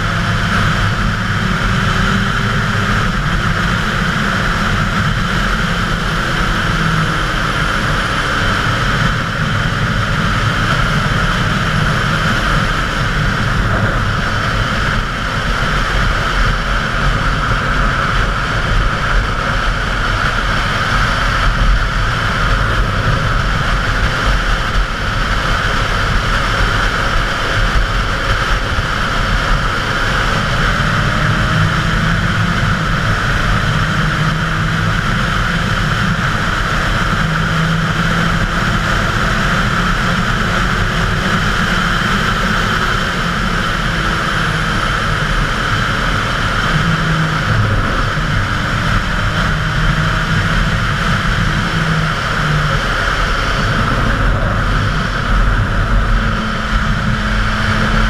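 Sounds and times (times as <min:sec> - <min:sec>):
motorcycle engine revving: 0:00.0 - 0:58.0
wind rushing over camera: 0:00.0 - 0:58.0.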